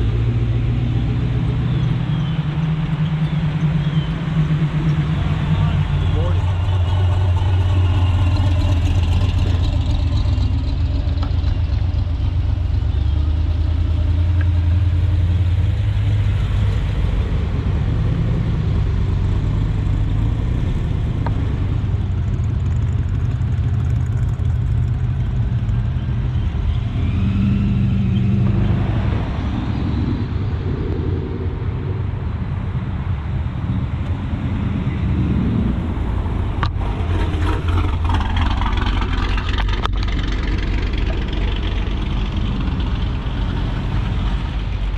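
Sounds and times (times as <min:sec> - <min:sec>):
car engine running low: 0:00.0 - 0:44.9.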